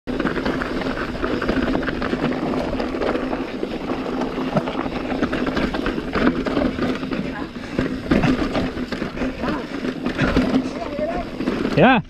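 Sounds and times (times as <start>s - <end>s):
bike rattling over stones: 0.1s - 12.0s
bike tyres on gravel and rock: 0.1s - 12.0s.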